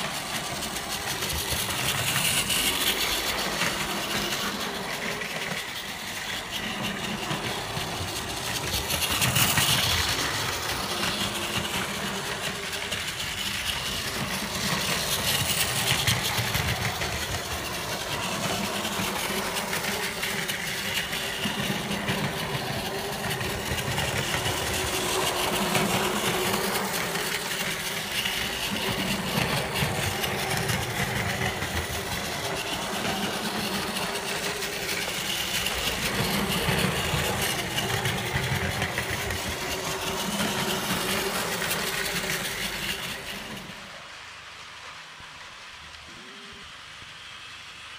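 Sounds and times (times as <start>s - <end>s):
toy train motor whirring: 0.0s - 44.2s.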